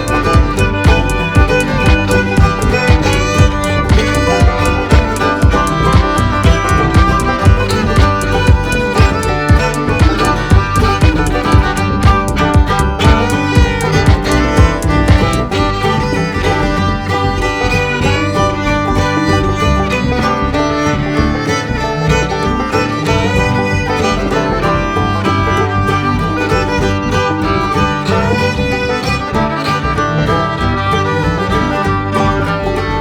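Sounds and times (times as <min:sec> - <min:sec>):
fiddle: 0:00.0 - 0:33.0
plucked guitar or banjo: 0:00.0 - 0:33.0.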